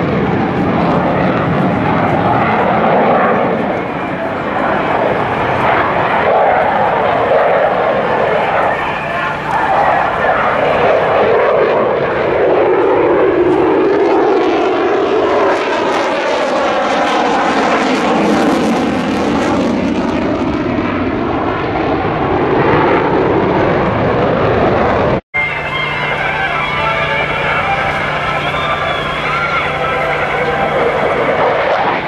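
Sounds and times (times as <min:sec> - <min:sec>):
loud fighter jet noise: 0:00.0 - 0:32.0.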